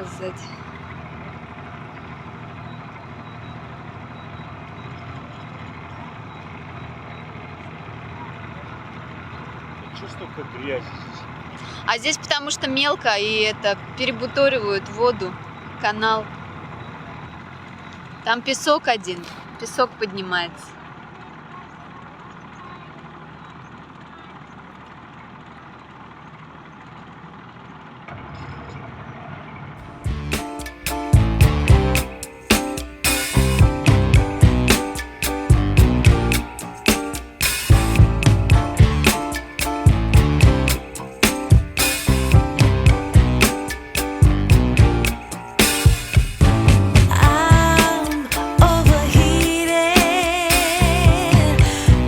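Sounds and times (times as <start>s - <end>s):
motorboat engine drone: 0.0s - 52.0s.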